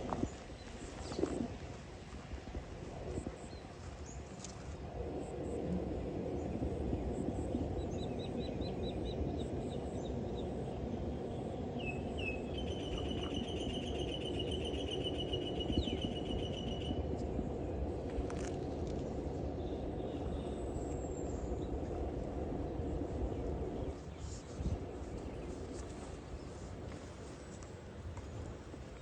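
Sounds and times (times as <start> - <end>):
distant road traffic hum: 0.0 - 29.0.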